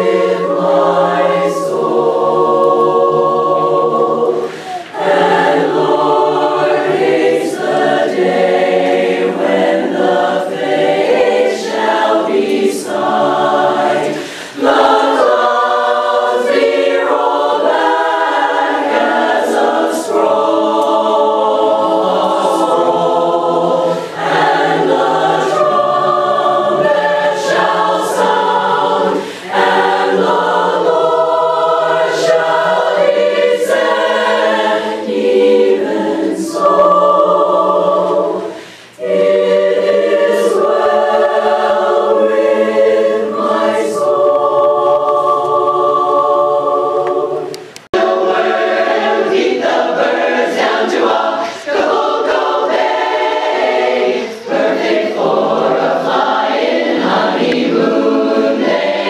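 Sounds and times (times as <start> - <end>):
women's chorus singing: 0.0 - 59.0.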